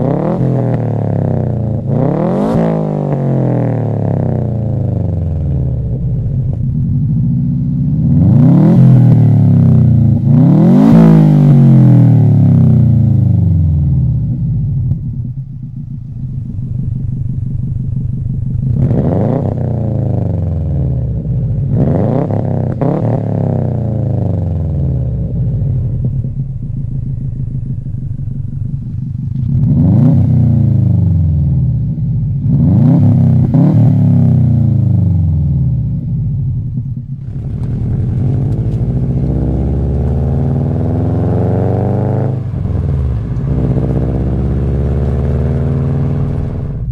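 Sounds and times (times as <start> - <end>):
car engine revving: 0.0 - 46.9
car engine running steadily: 0.0 - 46.9.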